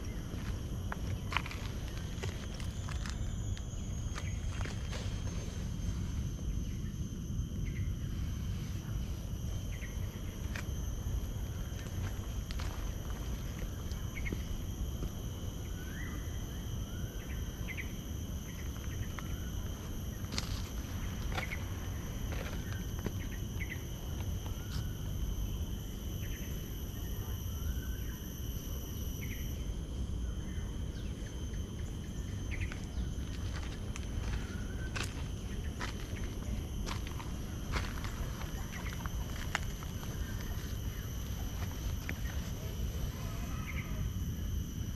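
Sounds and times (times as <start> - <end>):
insect chorus: 0.0 - 44.9.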